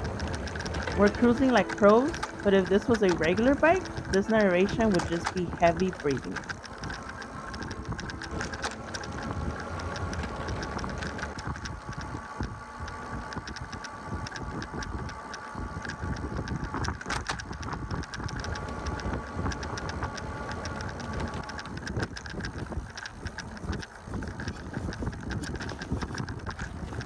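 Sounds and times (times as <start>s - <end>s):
bicycle freewheel ticking: 0.0s - 27.0s
tyres rumbling: 0.0s - 27.0s
wind on microphone: 0.0s - 27.0s.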